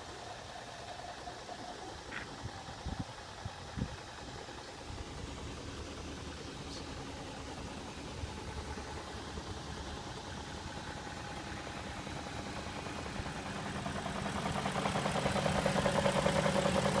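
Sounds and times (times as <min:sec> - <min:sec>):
engine running with rattling knock: 0:00.0 - 0:17.0.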